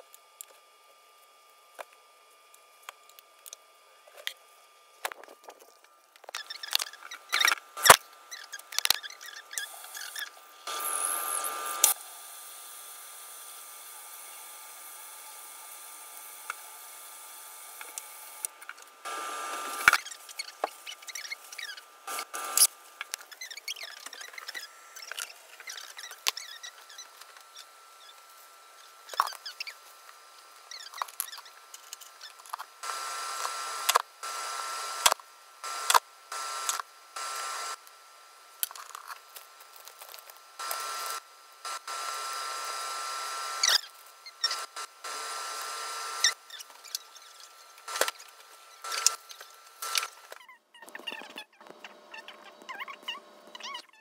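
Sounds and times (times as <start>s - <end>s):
faint steady whine: 0.0s - 53.8s.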